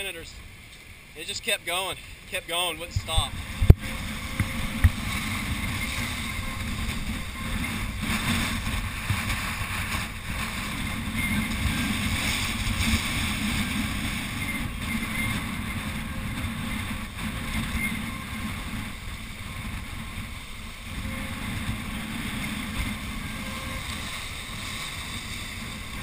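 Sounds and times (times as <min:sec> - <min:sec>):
wind buffeting microphone: 0:02.8 - 0:26.0.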